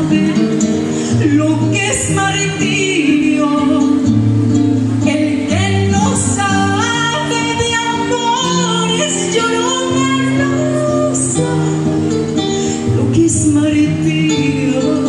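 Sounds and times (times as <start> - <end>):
guitar accompaniment: 0.0 - 15.0
woman singing into microphone: 0.0 - 15.0.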